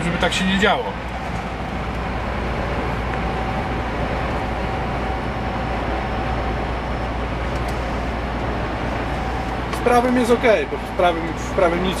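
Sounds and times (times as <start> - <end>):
diesel engine hum: 0.0 - 12.0
faint steady whine: 0.0 - 12.0.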